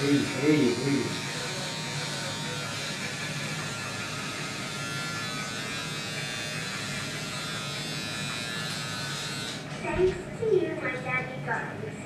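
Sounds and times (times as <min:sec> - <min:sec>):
hair trimmer buzzing: 0:00.0 - 0:09.7.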